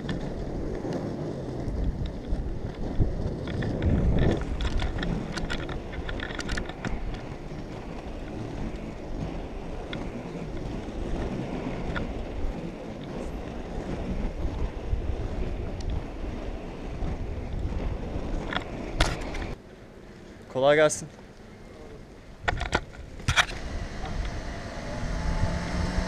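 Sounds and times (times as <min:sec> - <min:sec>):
wind buffeting microphone: 0:00.0 - 0:19.6, 0:22.0 - 0:26.0
skate wheels rolling on asphalt: 0:00.0 - 0:26.0.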